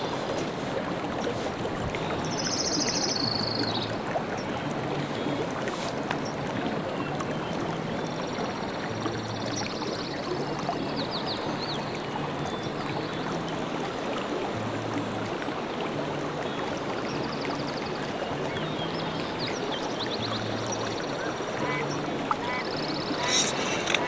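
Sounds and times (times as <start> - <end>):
creek water running: 0.0 - 24.0
soft background music: 0.0 - 24.0.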